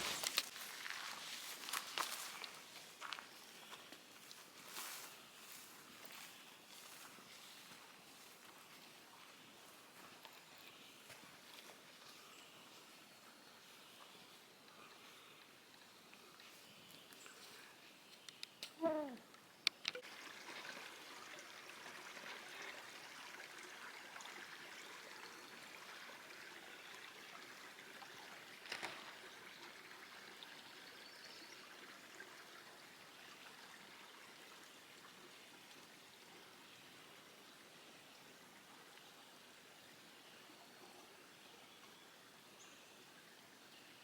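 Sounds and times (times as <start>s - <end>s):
water trickling at shore: 0.0s - 44.0s.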